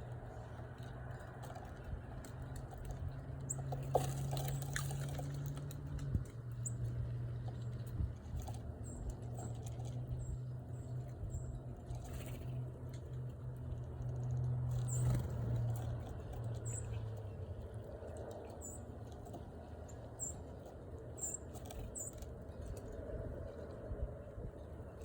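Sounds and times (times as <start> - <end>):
small birds chip calls: 0.0 - 23.0
steady low hum: 0.0 - 25.0.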